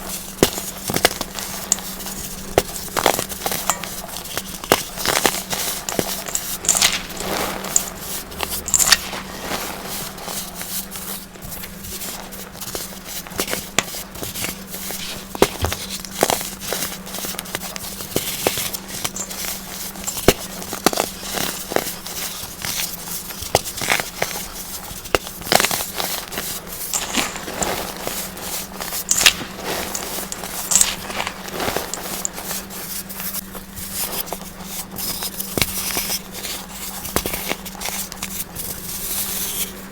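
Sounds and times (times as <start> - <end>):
baking soda crunching: 0.0 - 39.9
steady low hum: 0.0 - 39.9.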